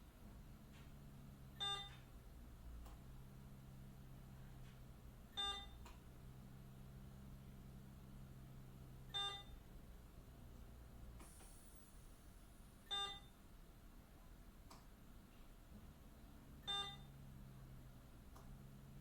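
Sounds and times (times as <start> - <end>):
low hum of room equipment: 0.0 - 19.0.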